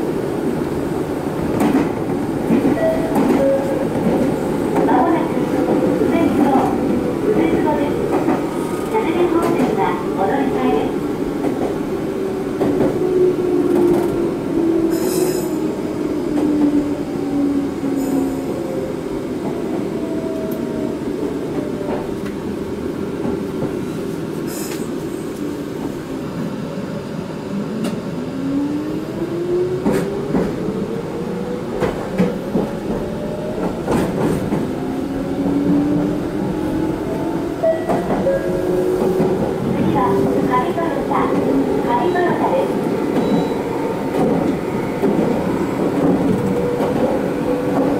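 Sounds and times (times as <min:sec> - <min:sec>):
wheels rumbling on rail: 0:00.0 - 0:47.9.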